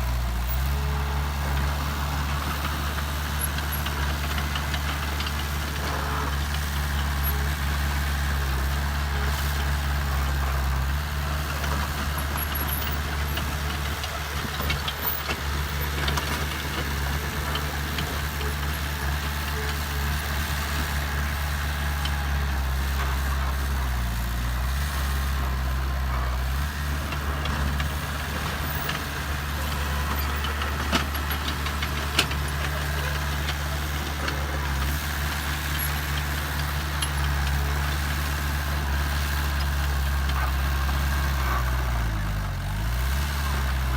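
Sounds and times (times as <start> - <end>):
heavy machinery diesel engine: 0.0 - 43.9.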